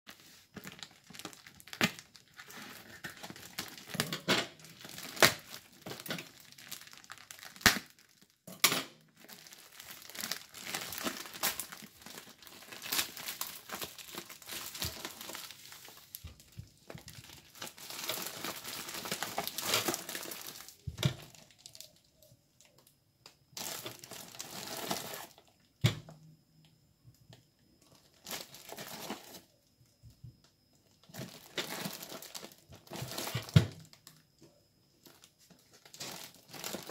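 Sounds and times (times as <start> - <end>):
plastic and tape crinkling: 0.1 - 25.6, 27.8 - 29.6, 30.8 - 34.4, 35.0 - 36.9.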